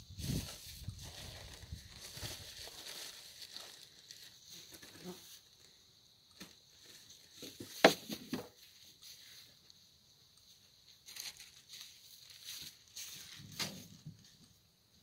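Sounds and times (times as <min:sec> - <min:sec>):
soft rustling and handling: 0:00.4 - 0:05.8, 0:06.4 - 0:09.8, 0:10.4 - 0:14.6.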